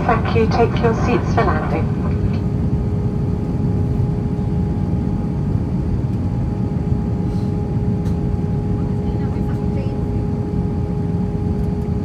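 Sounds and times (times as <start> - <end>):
airplane cabin rumble: 0.0 - 12.0
steady hum: 0.0 - 12.0.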